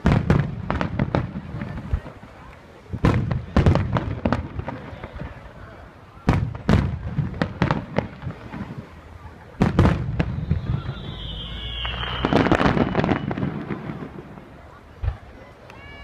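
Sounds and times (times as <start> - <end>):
firework bangs and booms: 0.0 - 15.3
crackling firework bursts: 0.0 - 16.0.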